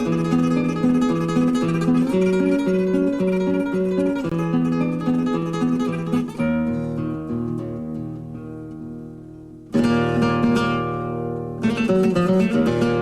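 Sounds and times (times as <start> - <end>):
flamenco acoustic guitar: 0.0 - 13.0.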